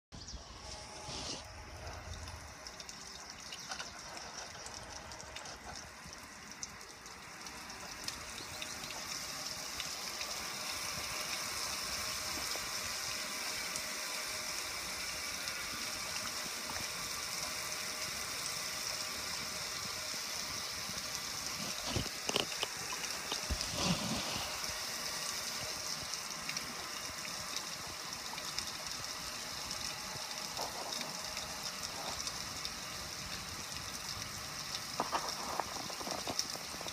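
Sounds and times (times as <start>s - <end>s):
water spraying onto grill: 2.6s - 36.9s.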